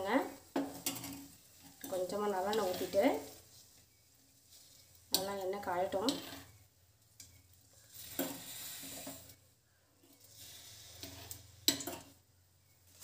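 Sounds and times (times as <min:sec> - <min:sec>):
oil sizzling in metal pan: 0:00.0 - 0:13.0.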